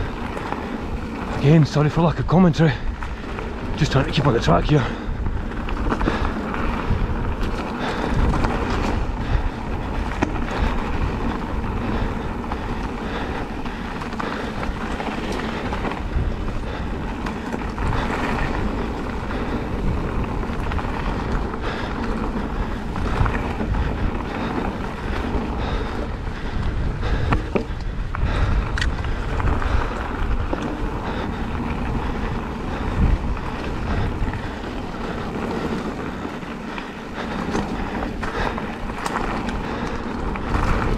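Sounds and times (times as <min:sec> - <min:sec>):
bike rattles and knocks: 0:00.0 - 0:40.9
tyre noise on dirt: 0:00.0 - 0:40.9
wind buffeting microphone: 0:00.0 - 0:40.9.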